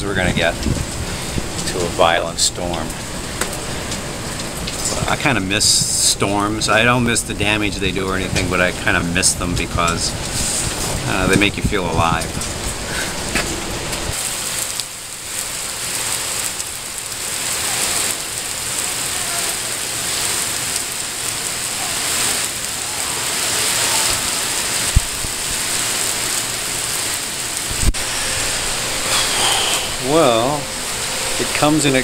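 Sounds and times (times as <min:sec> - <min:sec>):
heavy rain on pavement: 0:00.0 - 0:32.0.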